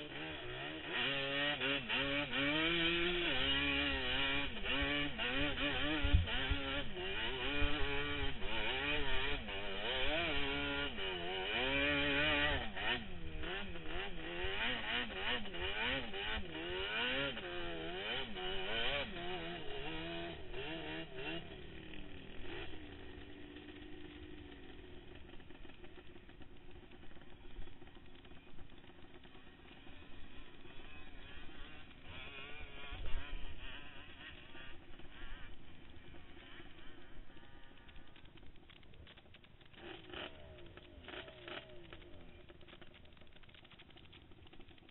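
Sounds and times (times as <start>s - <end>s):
quad engine revving: 0.0s - 44.9s.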